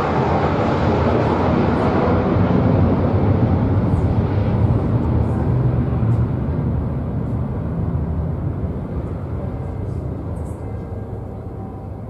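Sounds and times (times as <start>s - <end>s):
jet engines deep rumble: 0.0s - 12.0s.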